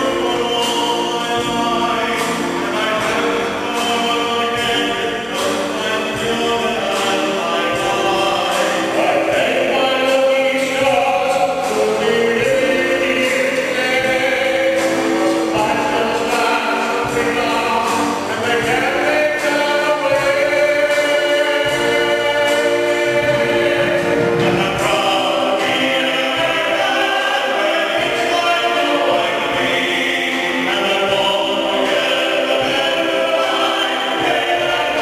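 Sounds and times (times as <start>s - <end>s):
choir singing held notes: 0.0s - 35.0s
orchestra accompanying: 0.0s - 35.0s.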